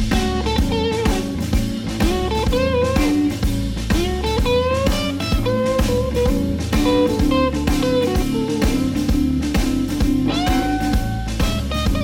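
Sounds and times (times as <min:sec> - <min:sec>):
blues electric guitar over beat: 0:00.0 - 0:12.0.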